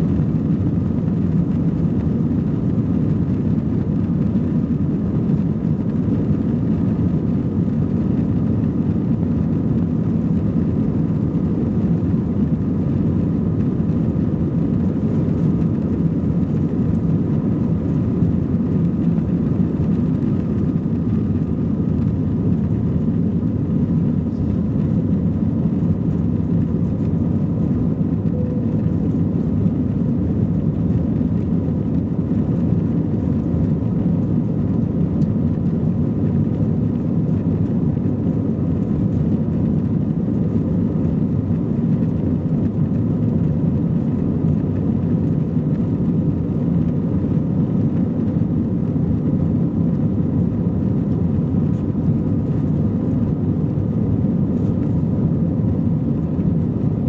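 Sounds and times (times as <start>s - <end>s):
faint even whine: 0.0s - 48.4s
jet engine and airflow rumble: 0.0s - 57.0s.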